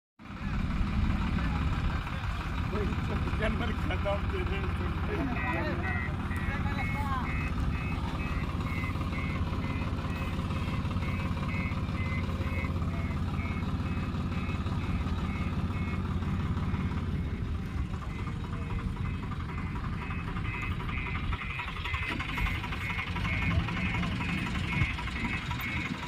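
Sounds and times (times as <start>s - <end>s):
diesel engine running: 0.2s - 26.0s
reversing alarm beeping: 4.6s - 26.0s.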